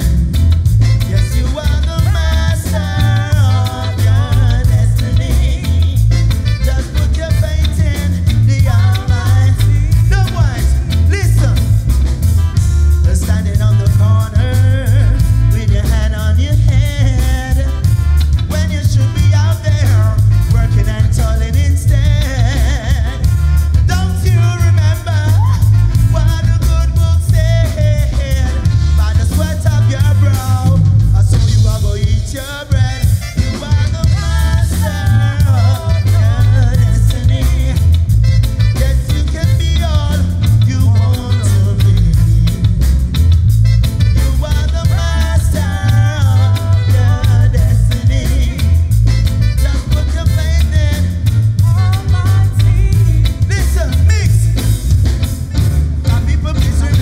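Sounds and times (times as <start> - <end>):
reggae band playing: 0.0 - 57.0
person singing: 0.9 - 11.8, 13.0 - 42.8, 44.1 - 54.8, 56.0 - 57.0.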